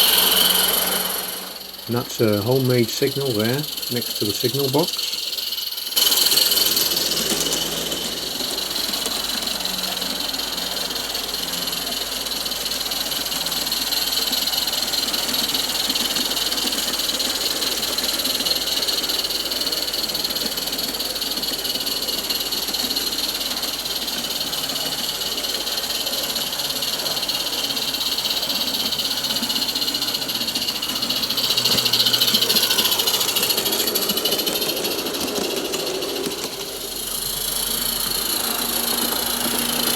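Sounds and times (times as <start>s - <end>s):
steam hissing from model locomotive: 0.0s - 39.9s.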